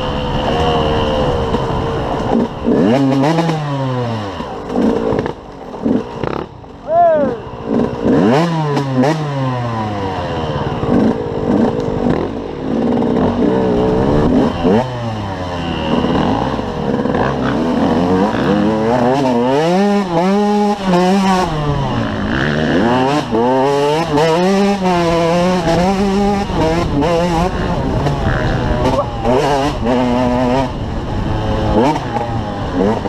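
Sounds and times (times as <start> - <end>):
two-stroke motorcycle engine revving: 0.0 - 33.0.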